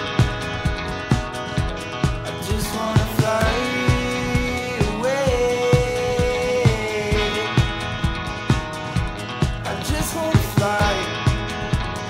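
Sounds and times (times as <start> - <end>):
clean electric guitar riff: 0.0 - 12.0
steady thumping beat: 0.0 - 12.0.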